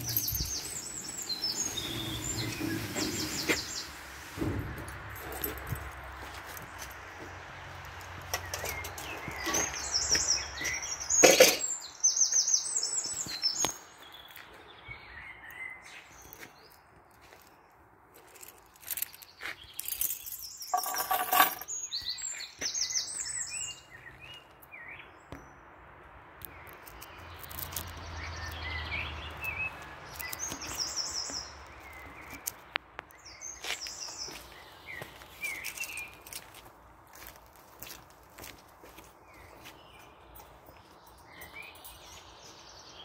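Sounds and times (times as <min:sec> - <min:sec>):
small birds chirping: 0:00.0 - 0:04.0, 0:08.3 - 0:25.6, 0:26.4 - 0:43.0.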